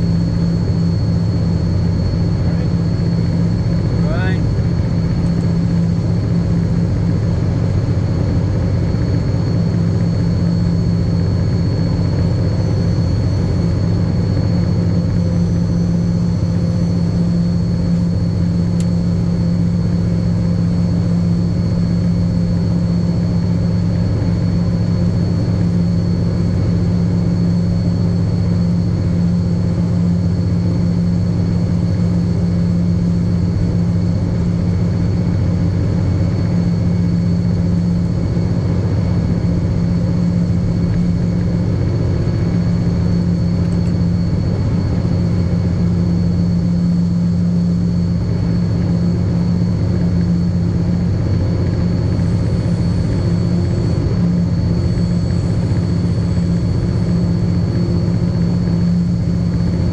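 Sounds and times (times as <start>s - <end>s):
locomotive engine droning: 0.0s - 59.9s
thin high whine: 0.0s - 59.9s.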